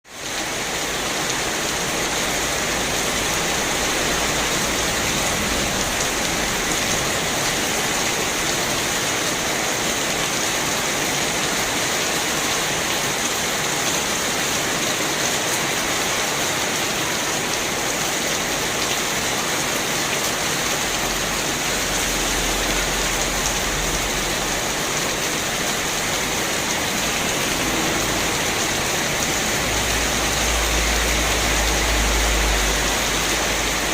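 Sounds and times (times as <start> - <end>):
heavy rain splashing on scooters: 0.0 - 33.9.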